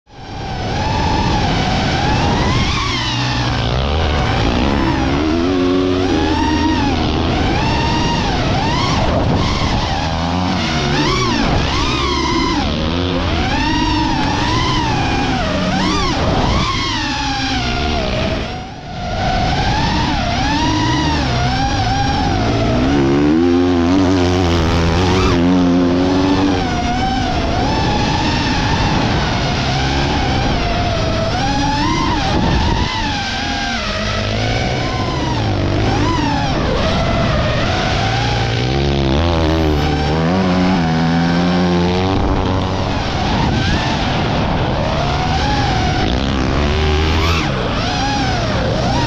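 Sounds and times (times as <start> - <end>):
drone propellers whining: 0.1 - 49.0
motocross bike engine running: 0.3 - 49.0.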